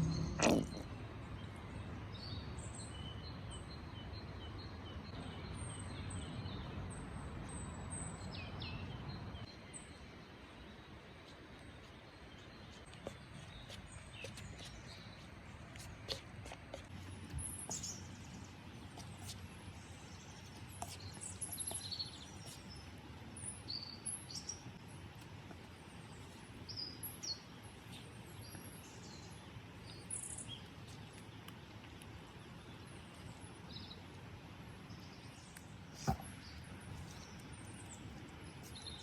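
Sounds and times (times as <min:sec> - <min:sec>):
wild birds chirping: 0:00.0 - 0:39.0.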